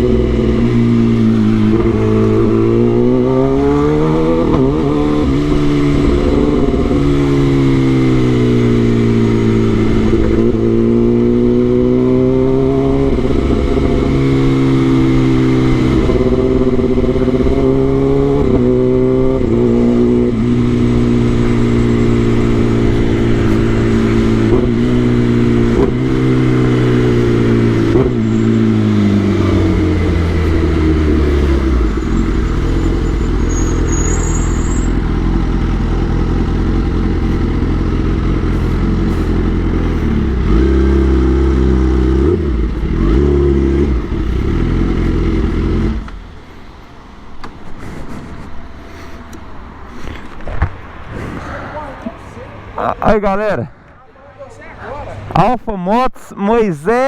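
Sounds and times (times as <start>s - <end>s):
motorcycle engine revving: 0.0s - 46.4s.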